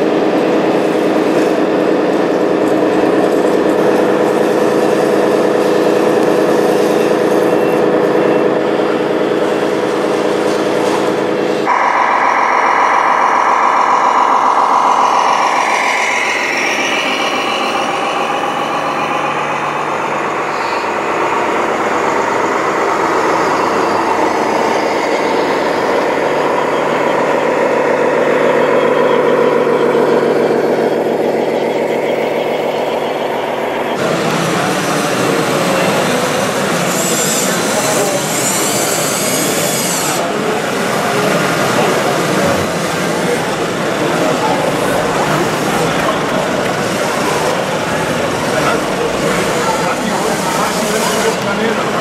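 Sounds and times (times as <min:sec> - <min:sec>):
simulated truck engine sound: 0:00.0 - 0:52.0.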